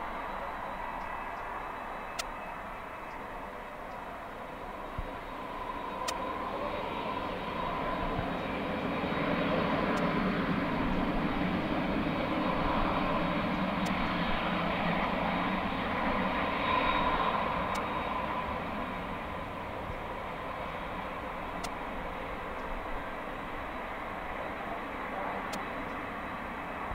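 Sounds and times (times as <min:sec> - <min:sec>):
jet engines idling with whine: 0:00.0 - 0:26.9.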